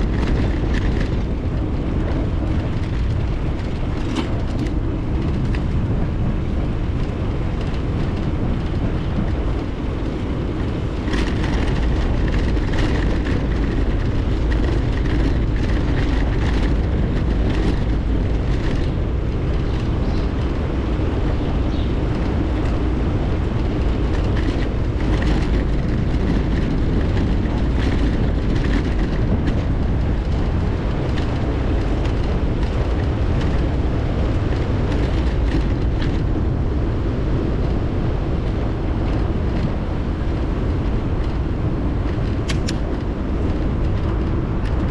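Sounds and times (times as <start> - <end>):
bicycle tyre rumble: 0.0 - 44.9
bike clicks and rattles: 0.0 - 44.9
wind on microphone: 0.0 - 44.9.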